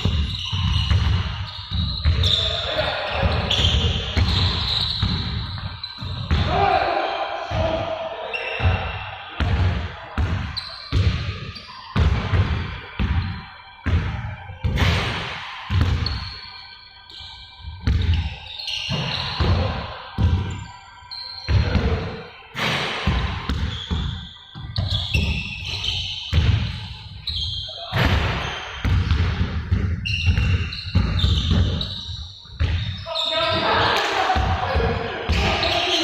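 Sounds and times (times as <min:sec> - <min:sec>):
balls bouncing on court floor: 0:00.0 - 0:06.6, 0:08.6 - 0:16.3, 0:17.8 - 0:20.7, 0:21.5 - 0:26.8, 0:27.9 - 0:36.0.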